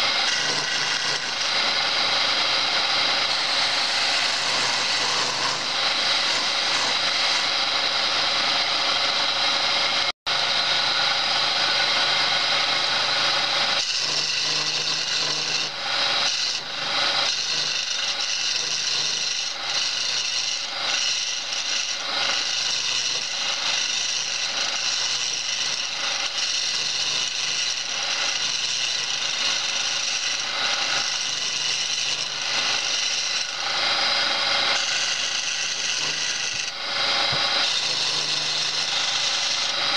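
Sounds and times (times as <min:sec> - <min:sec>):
turning tool scraping wood: 0:00.0 - 0:39.9.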